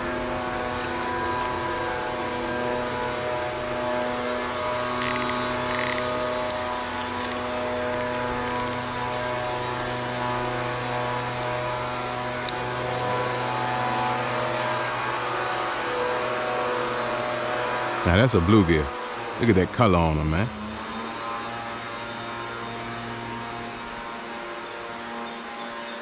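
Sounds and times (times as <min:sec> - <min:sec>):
distant engine droning: 0:00.0 - 0:26.0.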